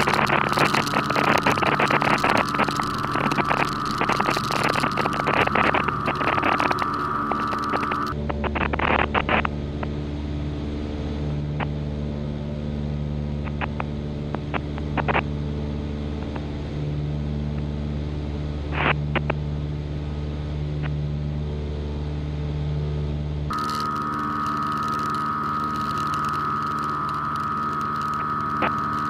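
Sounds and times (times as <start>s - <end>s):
propeller plane engine in cabin: 0.0s - 29.0s.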